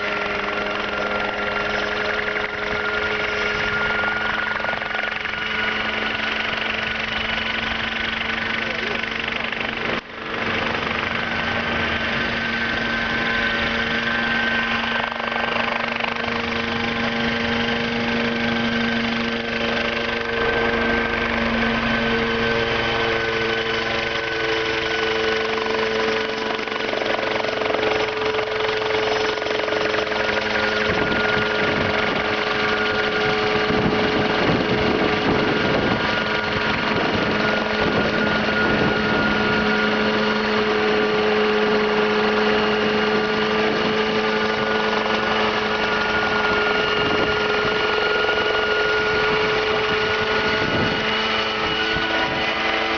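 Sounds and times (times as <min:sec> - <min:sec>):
helicopter engine humming: 0:00.0 - 0:52.9.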